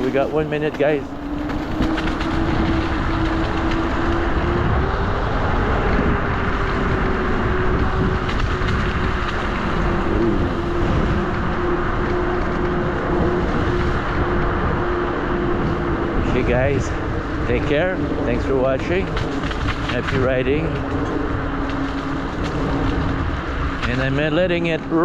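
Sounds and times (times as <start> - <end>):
electric scooter motor whine: 0.0 - 25.0
wind and tyre noise: 0.0 - 25.0.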